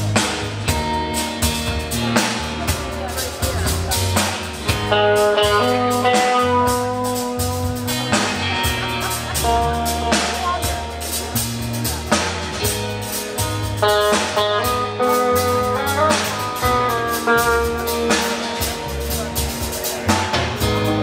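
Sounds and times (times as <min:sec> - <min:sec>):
bass: 0:00.0 - 0:21.0
electric guitars: 0:00.0 - 0:21.0
steady drum beat: 0:00.0 - 0:21.0.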